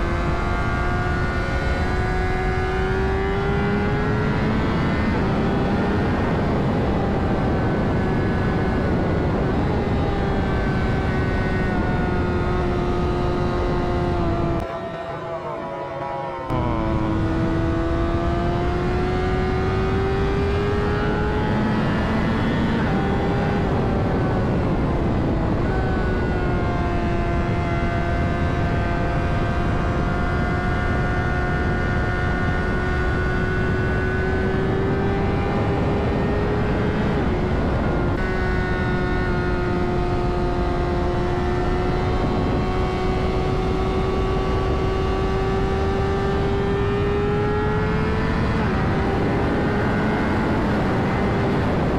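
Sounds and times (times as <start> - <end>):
wind noise: 0.0 - 15.2, 16.4 - 51.9.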